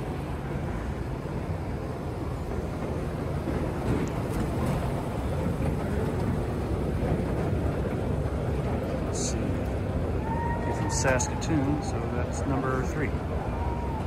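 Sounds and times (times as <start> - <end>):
low rumble of terminal hall: 0.0 - 14.0.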